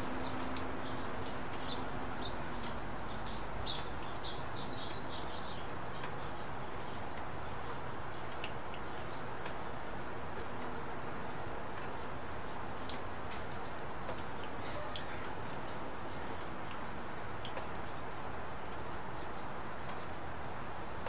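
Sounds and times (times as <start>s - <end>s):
single raindrops ticking: 0.0s - 21.0s
steady rain hiss: 0.0s - 21.0s.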